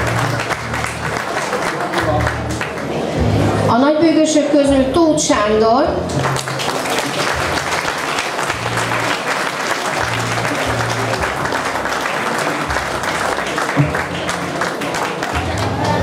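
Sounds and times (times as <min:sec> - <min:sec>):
audience applauding: 0:00.0 - 0:03.2, 0:06.2 - 0:16.0
low music: 0:00.0 - 0:16.0.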